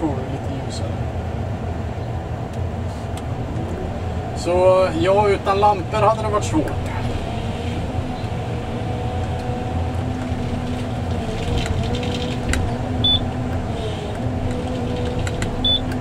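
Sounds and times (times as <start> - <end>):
diesel and hydraulic hum: 0.8 - 16.0.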